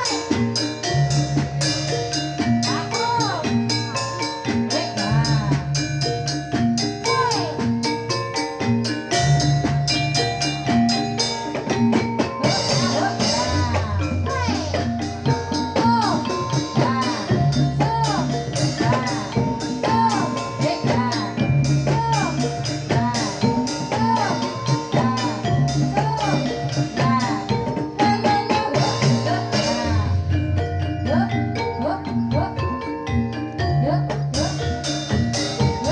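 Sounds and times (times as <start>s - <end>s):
gamelan music with drums: 0.0s - 35.9s.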